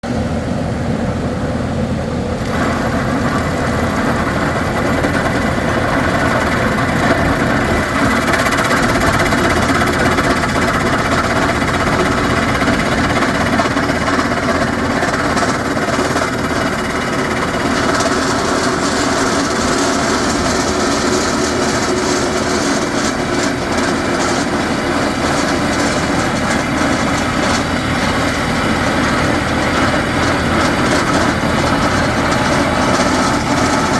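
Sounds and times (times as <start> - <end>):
rock drilling rig engine: 2.3 - 33.9.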